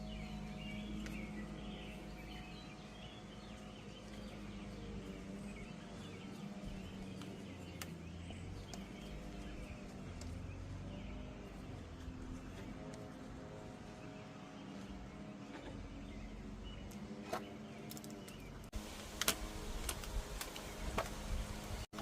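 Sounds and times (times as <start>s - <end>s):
birds chirping faintly: 0.0s - 22.0s
low steady hum: 0.0s - 22.0s.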